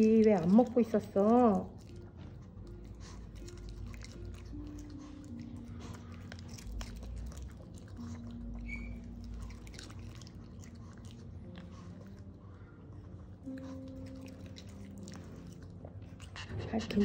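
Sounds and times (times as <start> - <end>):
dog crunching food: 0.0 - 16.5.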